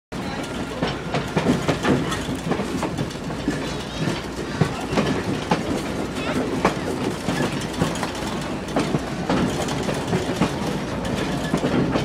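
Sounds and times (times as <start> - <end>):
train wheels clacking over rail joints: 0.2 - 12.0.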